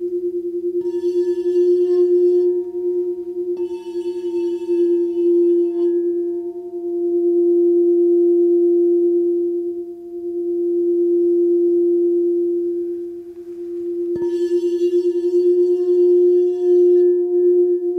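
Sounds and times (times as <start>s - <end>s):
crystal singing bowl ringing: 0.0s - 17.9s.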